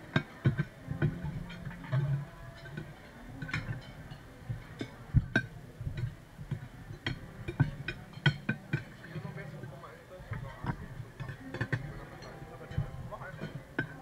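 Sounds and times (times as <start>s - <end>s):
cutlery clinking on plates: 0.0s - 14.0s.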